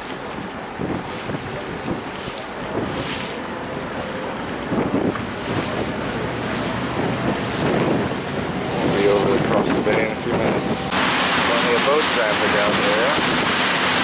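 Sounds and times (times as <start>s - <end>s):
boat engine running: 0.0s - 14.0s
water rushing along hull: 0.0s - 14.0s
wind on microphone: 0.0s - 14.0s.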